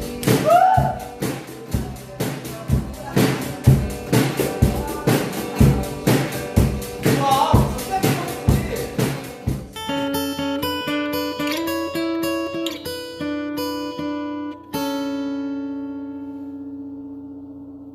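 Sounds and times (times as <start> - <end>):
acoustic guitar picking: 0.0 - 17.9.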